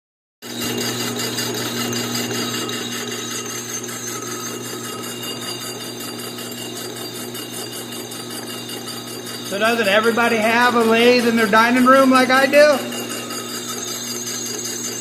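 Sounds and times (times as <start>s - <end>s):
high whining tones: 0.5s - 15.0s
lathe motor hum: 0.5s - 15.0s.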